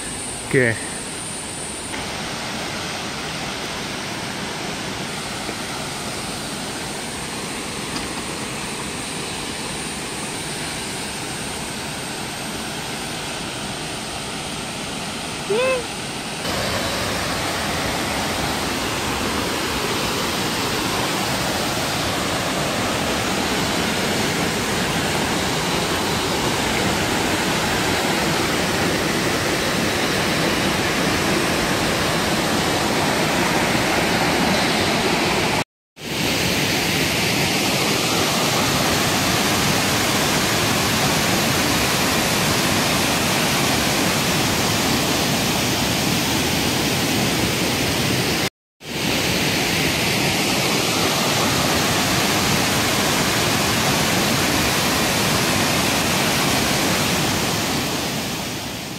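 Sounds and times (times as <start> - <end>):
waterfall rushing into pool: 0.0 - 58.9.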